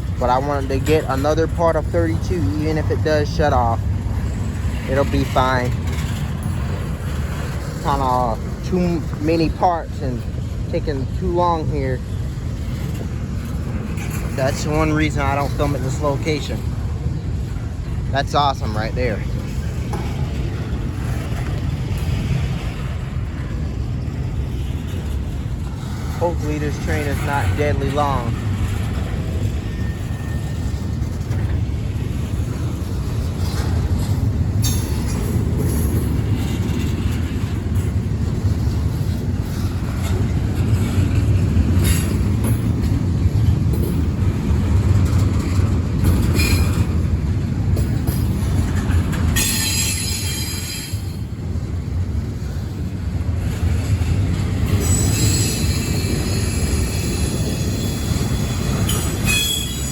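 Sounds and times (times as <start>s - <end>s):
freight train rumbling past: 0.0s - 59.9s
wheels and couplers clanking: 0.0s - 59.9s
wheels screeching on rail: 0.0s - 59.9s.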